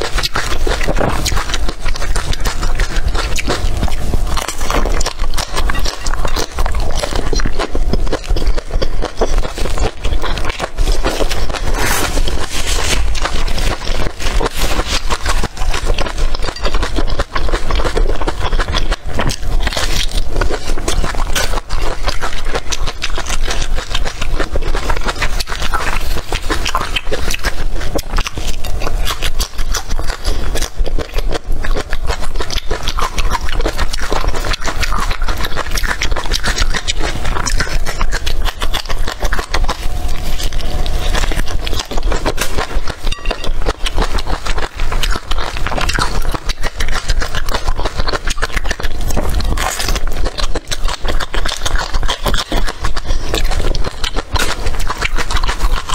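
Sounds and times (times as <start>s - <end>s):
crunchy chewing of peppers: 0.0s - 55.9s.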